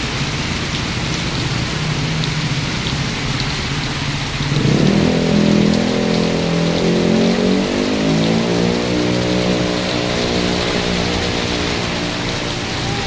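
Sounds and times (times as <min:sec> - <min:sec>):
engine hum: 0:00.0 - 0:13.0
steady rain falling: 0:00.0 - 0:13.0.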